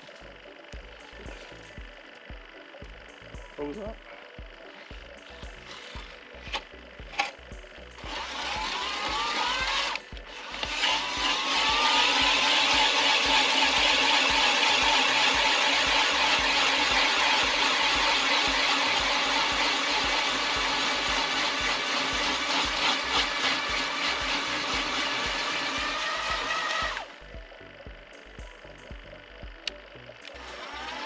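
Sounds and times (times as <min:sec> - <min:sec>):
ice auger motor drilling: 0:00.0 - 0:31.0.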